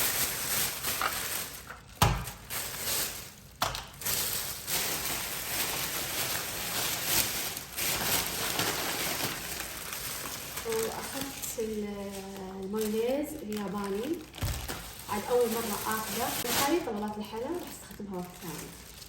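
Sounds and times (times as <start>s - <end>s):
kitchen items rustling: 0.0s - 19.0s.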